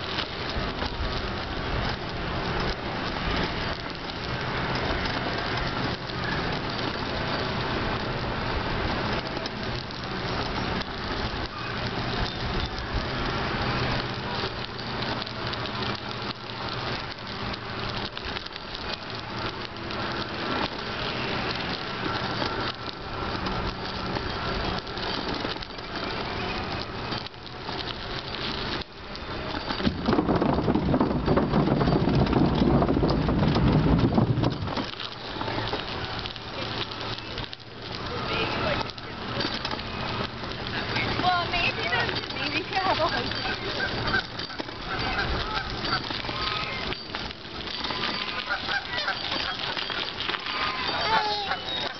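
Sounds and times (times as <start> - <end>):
bicycle tyres on gravel: 0.0 - 51.9
bike rattling: 0.0 - 51.9.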